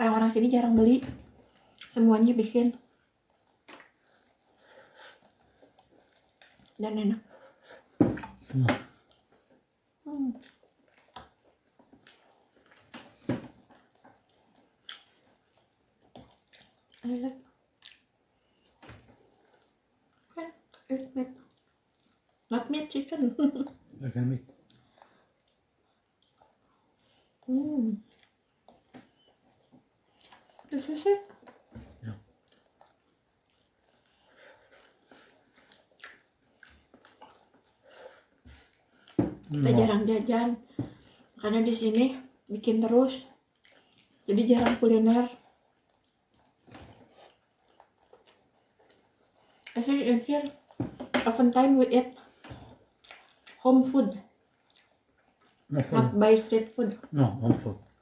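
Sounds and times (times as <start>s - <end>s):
person chewing: 1.4s - 2.0s, 2.8s - 6.8s, 7.4s - 22.5s, 23.2s - 41.4s, 43.3s - 44.3s, 45.1s - 58.0s.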